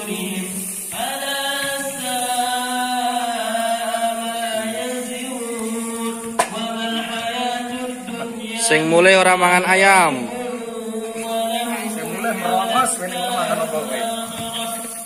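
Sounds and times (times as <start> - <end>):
vocal chant with long held notes: 0.0 - 15.0.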